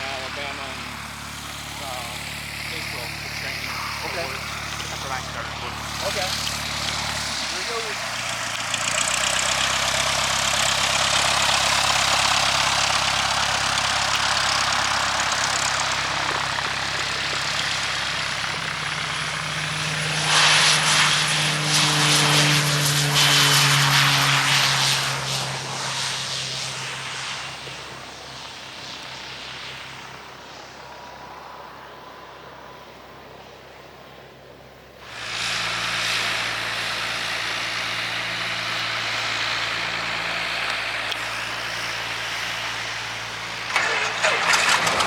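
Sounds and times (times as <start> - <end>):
aircraft propeller engine droning: 0.0 - 45.0.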